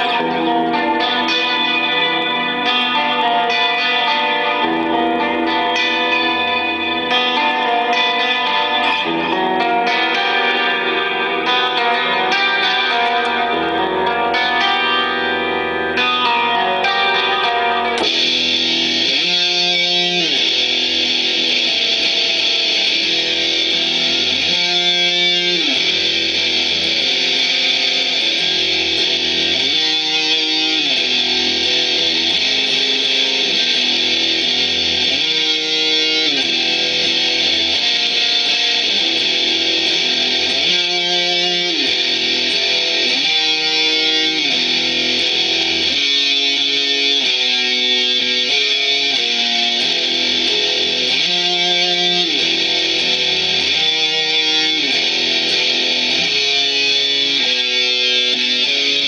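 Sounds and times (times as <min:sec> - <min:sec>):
distorted electric guitar metal riff: 0:00.0 - 0:59.0.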